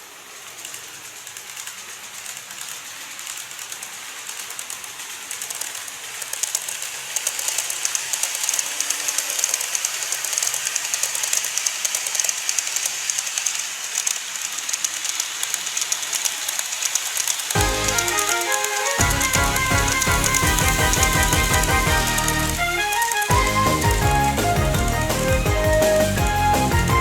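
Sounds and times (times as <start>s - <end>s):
high hiss of model train: 0.0s - 23.9s
model train wheels clicking: 0.0s - 27.0s.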